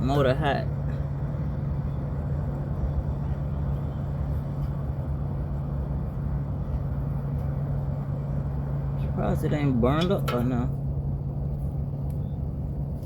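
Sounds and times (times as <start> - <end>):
low mechanical hum: 0.0 - 13.0
low rumble: 0.0 - 13.0.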